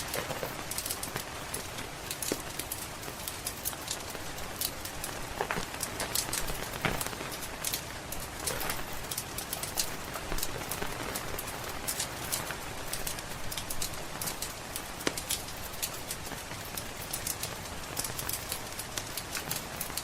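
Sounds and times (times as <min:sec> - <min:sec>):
steady rain hiss: 0:00.0 - 0:20.0
wood fire crackling: 0:00.0 - 0:20.0.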